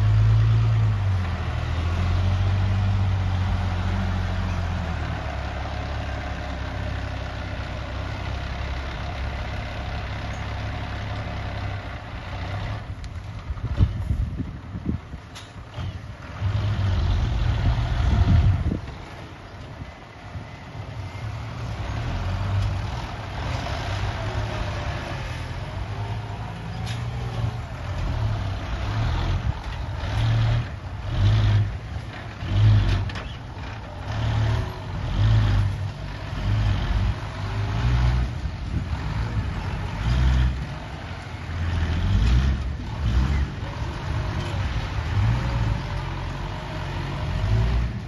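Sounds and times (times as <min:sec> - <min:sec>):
excavator engine rumbling: 0:00.0 - 0:48.0.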